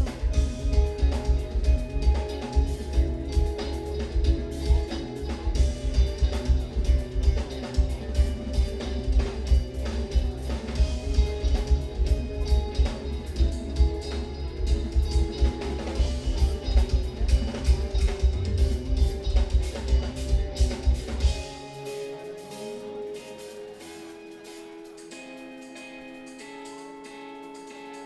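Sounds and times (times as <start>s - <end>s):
electric guitars: 0.0s - 28.0s.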